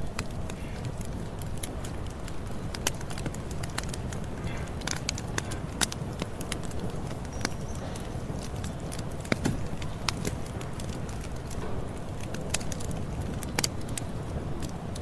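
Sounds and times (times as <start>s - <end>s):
campfire wood crackling: 0.0s - 15.0s
low rumble of flames: 0.0s - 15.0s.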